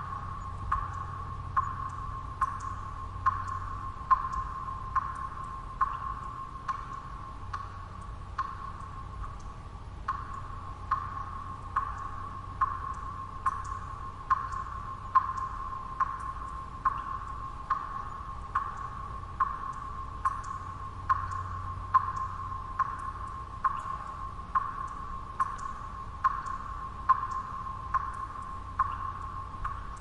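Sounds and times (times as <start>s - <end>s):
low white-noise hum: 0.0s - 30.0s.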